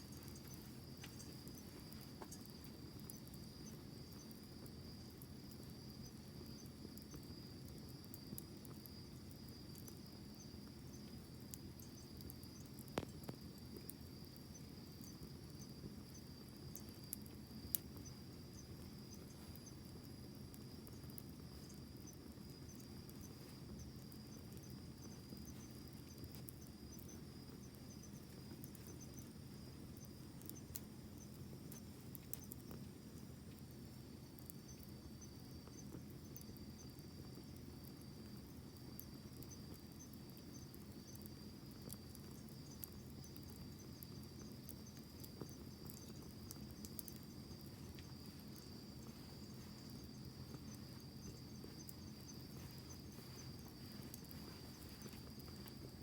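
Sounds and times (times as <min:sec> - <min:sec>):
campfire crackling: 0:00.0 - 0:56.0
crickets chirring: 0:00.0 - 0:56.0.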